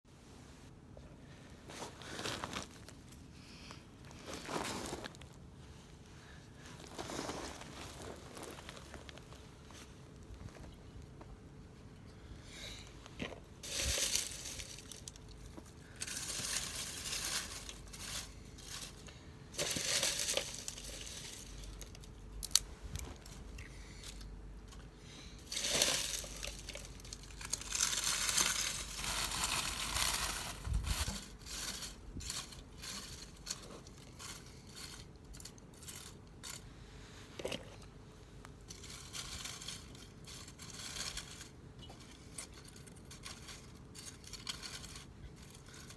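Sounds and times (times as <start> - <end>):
kindling crinkling and rustling: 1.6 - 3.4, 4.0 - 12.0, 13.0 - 45.9.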